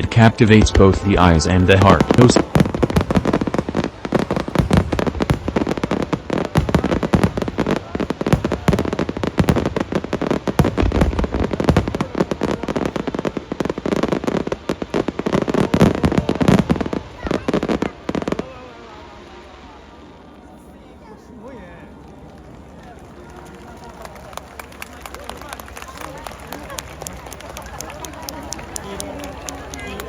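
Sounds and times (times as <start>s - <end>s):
fireworks bangs and crackles: 0.0s - 20.9s, 21.8s - 30.0s.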